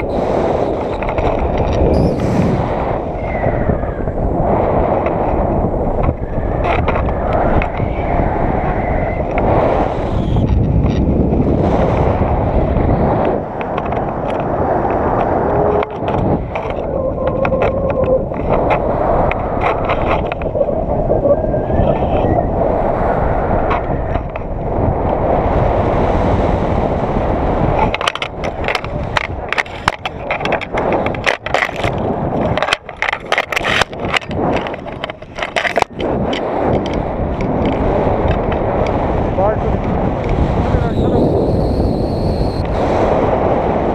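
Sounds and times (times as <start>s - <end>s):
rapid crackles and scratchy clicks: 0.0s - 3.2s, 4.1s - 22.4s, 27.7s - 43.2s
wind rumbling on microphone: 0.0s - 43.9s.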